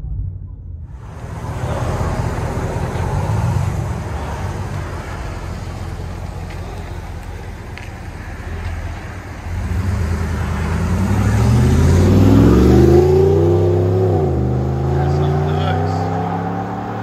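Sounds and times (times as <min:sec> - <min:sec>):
truck engine accelerating: 0:00.0 - 0:17.0.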